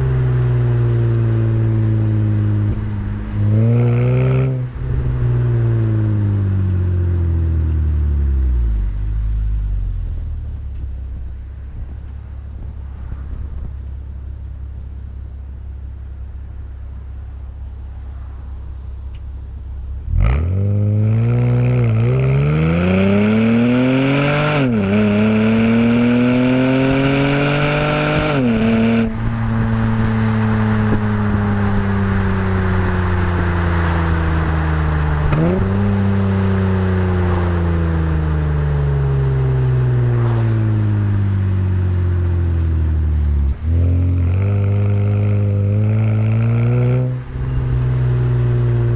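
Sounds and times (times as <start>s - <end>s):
car engine accelerating hard: 0.0s - 13.9s, 19.9s - 48.9s.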